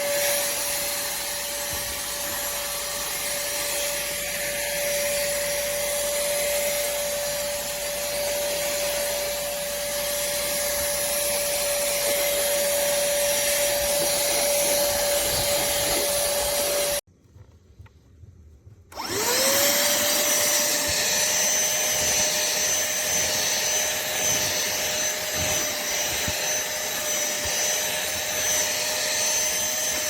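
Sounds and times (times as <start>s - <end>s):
handheld vacuum cleaner running: 0.0s - 17.1s, 18.9s - 30.0s.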